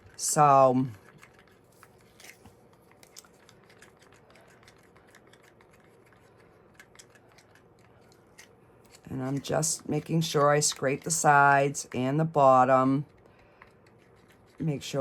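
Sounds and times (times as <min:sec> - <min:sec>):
stirrer scraping mixing cup: 0:00.0 - 0:12.0, 0:13.0 - 0:15.0.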